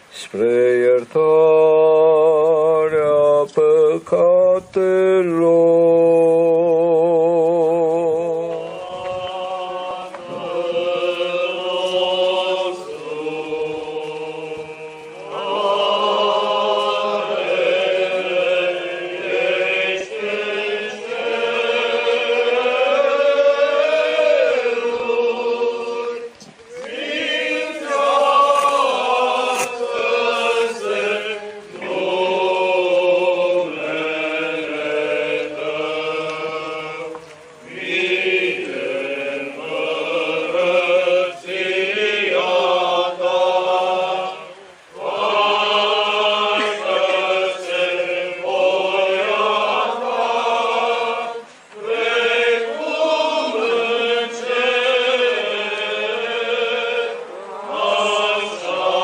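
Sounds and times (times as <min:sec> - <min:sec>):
choir singing chant: 0:00.0 - 0:59.0.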